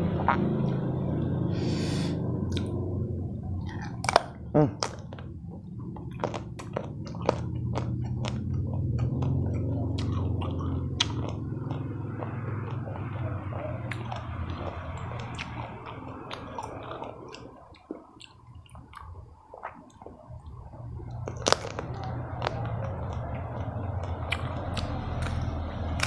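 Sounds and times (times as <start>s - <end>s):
steady low hum: 0.0s - 26.0s
chewing with wet mouth clicks: 2.5s - 2.8s, 3.6s - 26.0s.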